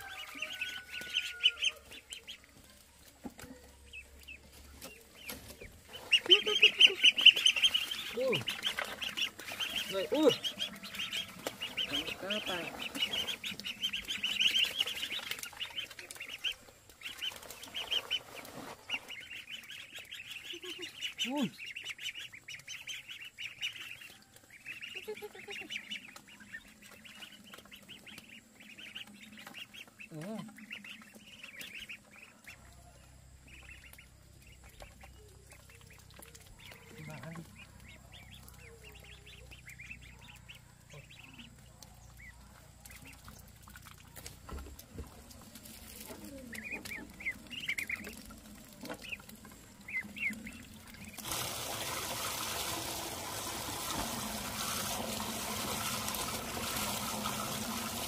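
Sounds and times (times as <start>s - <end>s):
birds calling: 0.0s - 53.1s.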